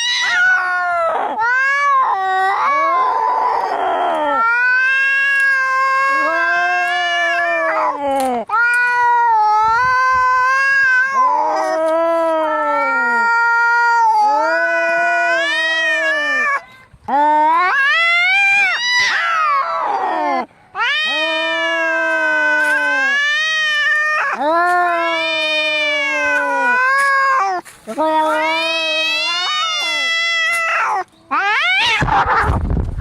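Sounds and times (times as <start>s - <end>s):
cats yowling: 0.0s - 32.6s.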